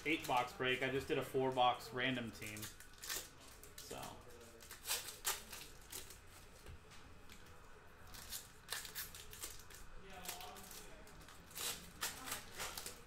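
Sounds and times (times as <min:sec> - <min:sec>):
card packs crinkling: 0:00.0 - 0:06.6, 0:08.0 - 0:13.0.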